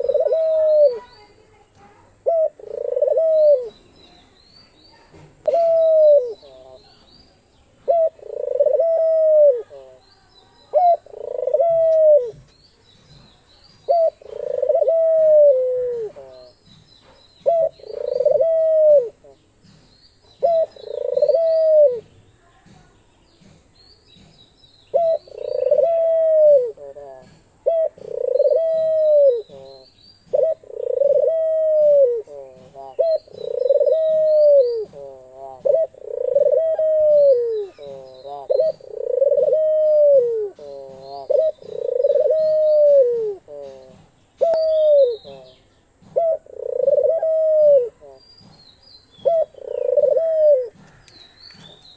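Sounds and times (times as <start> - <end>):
dove cooing: 0.0 - 1.3, 2.1 - 3.8, 5.4 - 7.1, 7.8 - 10.0, 10.7 - 12.5, 13.8 - 16.8, 17.4 - 19.4, 20.4 - 22.1, 24.9 - 48.5, 49.2 - 51.8
small birds chirping: 0.0 - 51.9.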